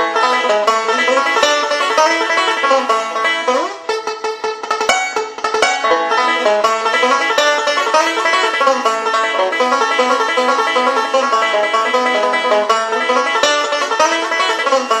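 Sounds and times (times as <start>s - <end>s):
banjo playing: 0.0s - 15.0s.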